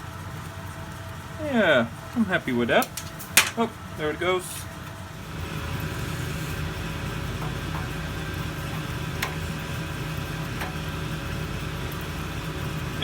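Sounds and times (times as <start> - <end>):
metal lathe humming: 1.6 - 13.0.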